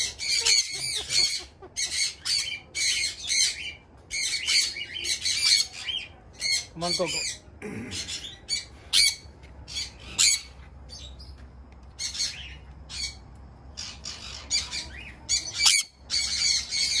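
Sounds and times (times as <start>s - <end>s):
parrots squawking: 0.0s - 11.0s, 13.8s - 17.0s.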